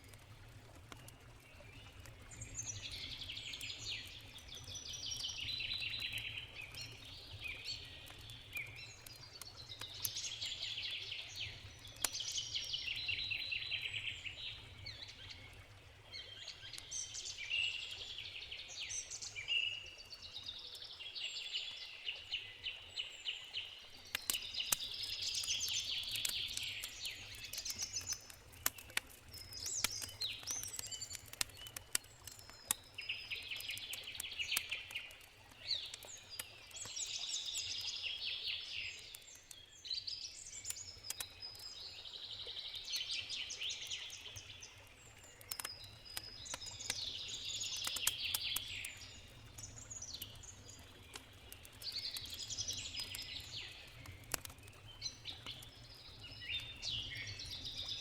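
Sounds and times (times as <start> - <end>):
campfire crackling: 0.0 - 21.0, 21.9 - 58.0
forest birds singing: 1.0 - 58.0.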